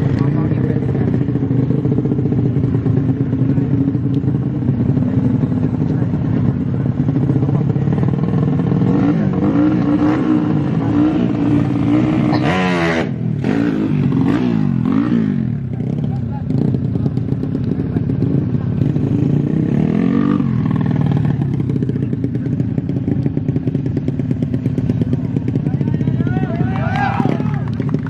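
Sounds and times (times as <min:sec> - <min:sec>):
motorcycles revving loudly: 0:00.0 - 0:28.0.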